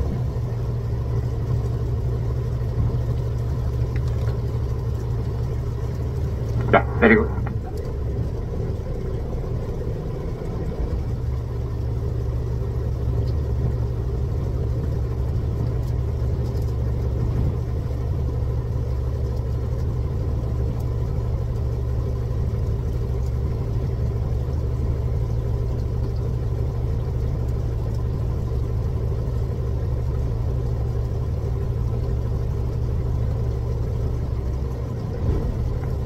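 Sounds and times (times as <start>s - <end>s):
boat engine idling: 0.0s - 36.0s.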